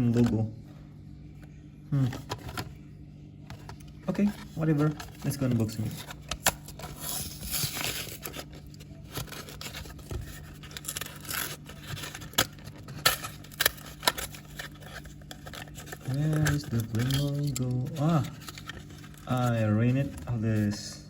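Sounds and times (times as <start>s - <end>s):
plastic and cardboard crinkling: 3.5s - 21.0s.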